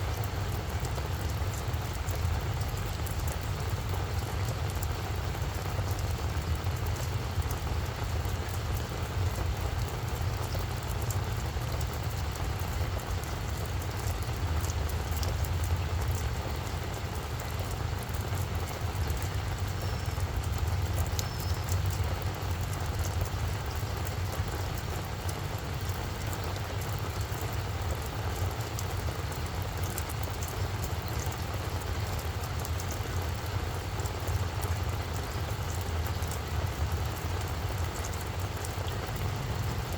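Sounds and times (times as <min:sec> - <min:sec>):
rain falling on flower bed: 0:00.0 - 0:39.9.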